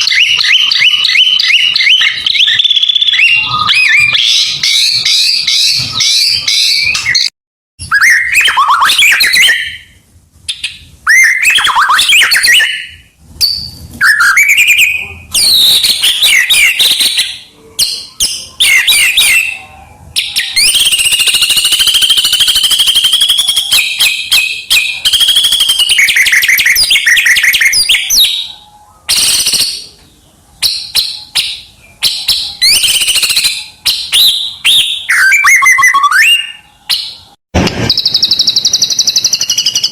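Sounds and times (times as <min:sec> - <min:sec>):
bird singing whistled phrases: 0:00.0 - 0:39.9
bird trill: 0:00.0 - 0:39.9.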